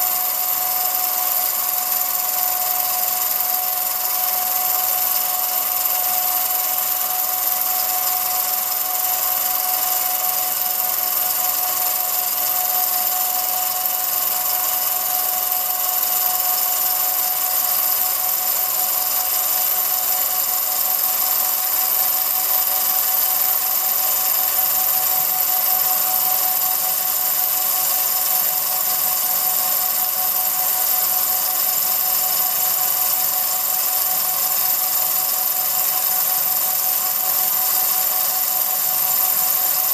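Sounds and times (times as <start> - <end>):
film projector motor whine: 0.0 - 39.9.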